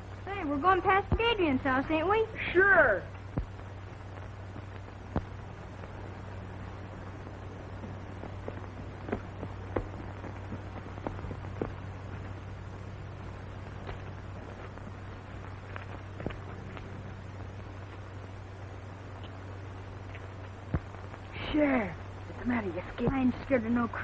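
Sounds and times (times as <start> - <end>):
film soundtrack hum and hiss: 0.0 - 24.0.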